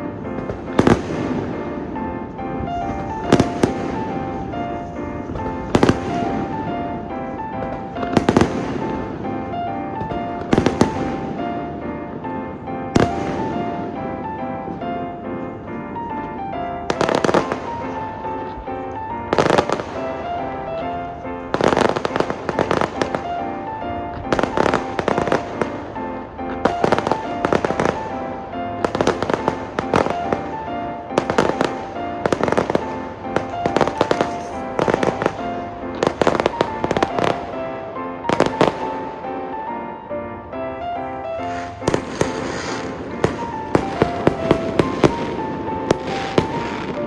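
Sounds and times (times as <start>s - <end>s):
fireworks bangs and crackles: 0.0s - 39.9s, 41.0s - 47.0s
background music: 0.0s - 47.0s.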